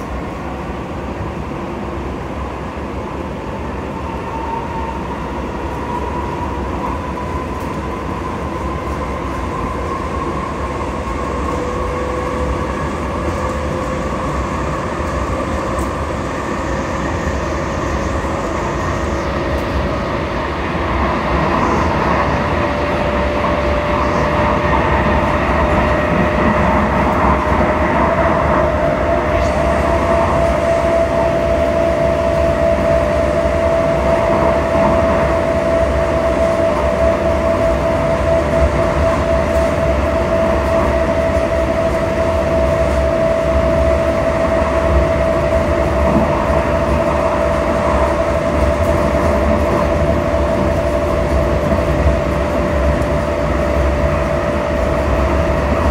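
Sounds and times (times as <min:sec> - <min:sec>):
light rail car rumbling on track: 0:00.0 - 0:55.9.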